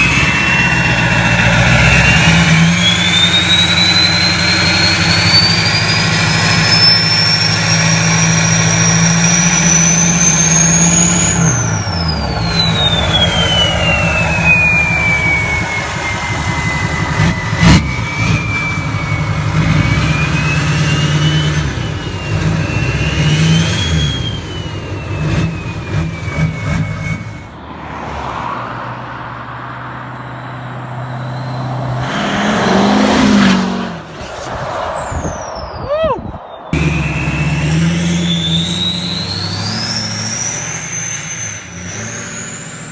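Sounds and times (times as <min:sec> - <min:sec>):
diesel truck engine revving: 0:00.0 - 0:42.9
high turbo whine: 0:00.0 - 0:42.9
truck driving past: 0:00.0 - 0:42.9.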